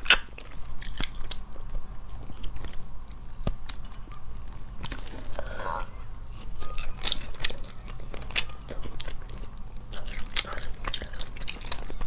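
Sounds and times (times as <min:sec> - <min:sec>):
chewing shellfish: 0:00.0 - 0:12.0.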